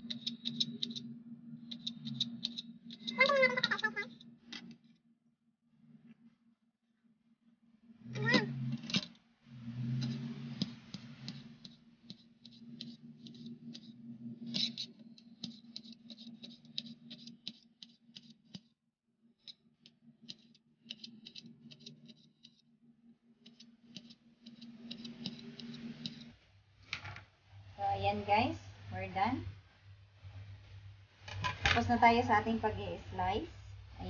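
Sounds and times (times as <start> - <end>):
low steady hum: 0.0 - 18.7, 19.4 - 34.0.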